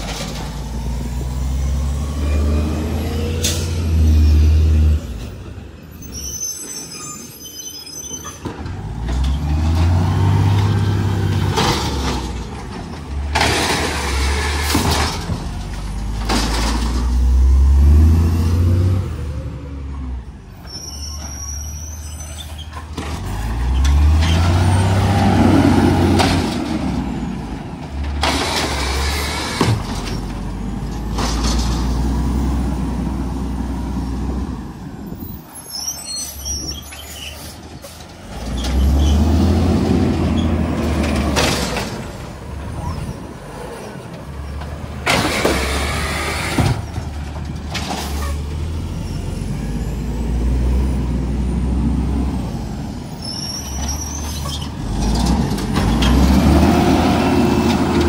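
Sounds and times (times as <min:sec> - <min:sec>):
diesel engine revving: 0:00.0 - 0:05.8, 0:08.6 - 0:20.6, 0:21.8 - 0:35.5, 0:36.4 - 0:58.0.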